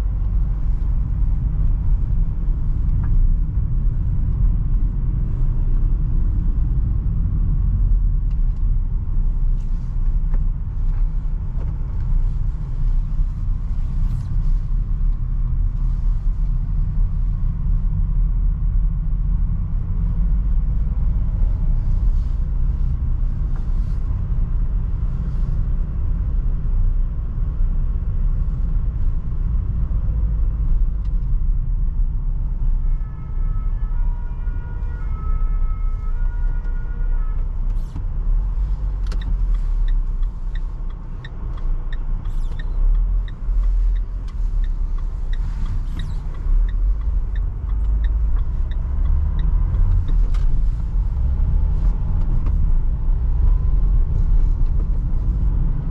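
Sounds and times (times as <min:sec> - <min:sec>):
van engine and road noise: 0:00.0 - 0:55.9.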